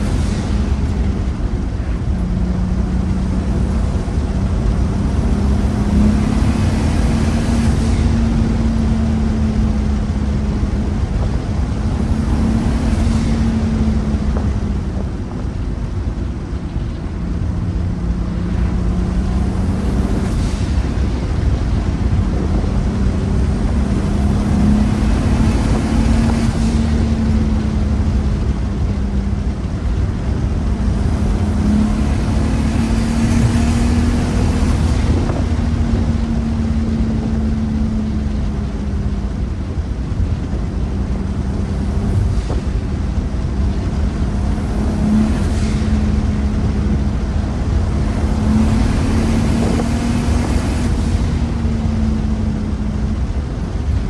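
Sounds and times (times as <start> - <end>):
car engine and exhaust droning: 0.0 - 54.0.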